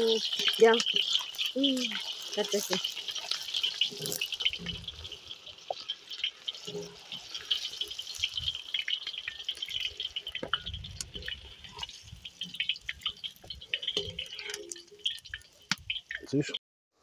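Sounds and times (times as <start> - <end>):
onions sizzling in hot oil: 0.0 - 16.5.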